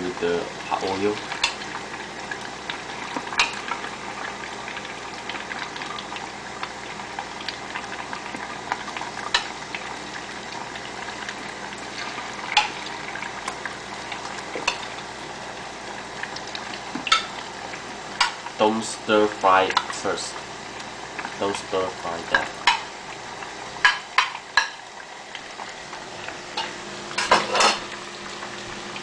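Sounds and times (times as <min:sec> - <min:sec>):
chicken deep-frying in oil: 0:00.0 - 0:29.0.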